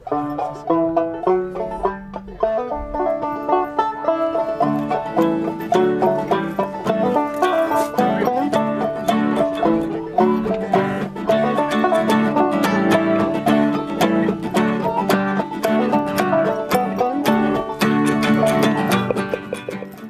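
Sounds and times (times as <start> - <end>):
guitars and ukulele strummed: 0.0 - 20.0.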